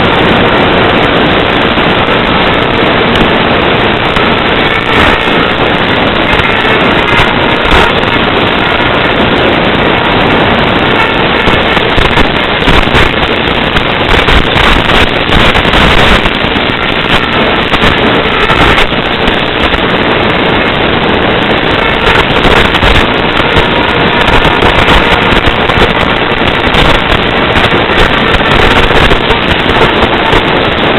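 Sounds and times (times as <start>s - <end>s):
faint steady tones: 0.0s - 30.9s
harsh radio crackling noise: 0.0s - 30.9s.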